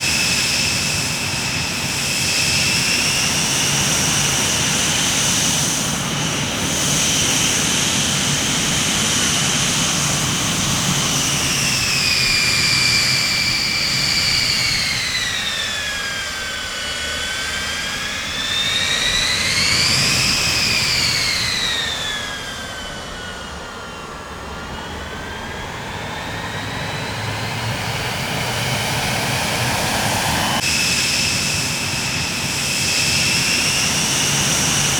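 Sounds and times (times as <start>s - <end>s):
jet engine rush and whine: 0.0s - 34.9s.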